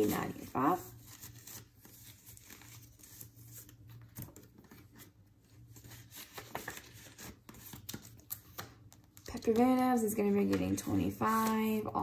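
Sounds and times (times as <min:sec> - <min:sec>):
banknotes rustling and flicking: 0:00.0 - 0:12.0.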